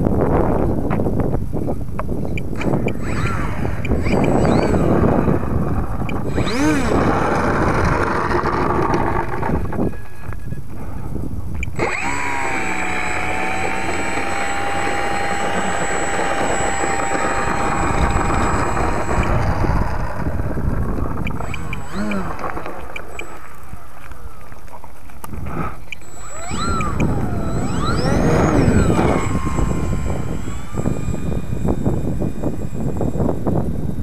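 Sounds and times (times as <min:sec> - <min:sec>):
electric motor whine: 0:00.0 - 0:34.0
wind buffeting microphone: 0:00.0 - 0:34.0.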